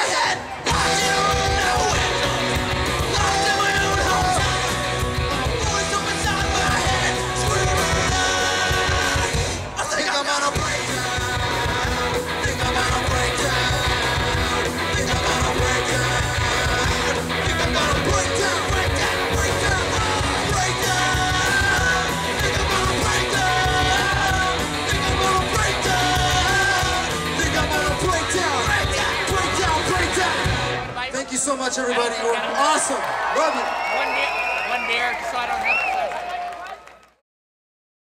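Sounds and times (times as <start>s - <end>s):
person singing: 0.0s - 30.7s
electric guitars: 0.0s - 31.1s
bass guitar: 0.0s - 31.2s
drums: 0.0s - 31.7s.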